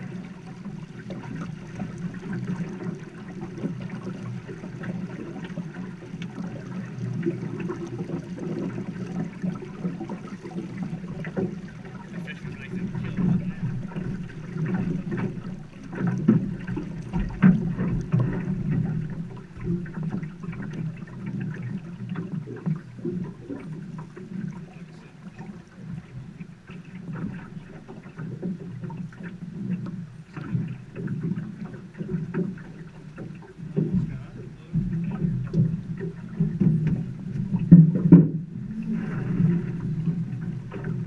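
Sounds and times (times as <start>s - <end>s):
river water splashing against boat: 0.0s - 41.0s
small water slaps: 0.0s - 41.0s.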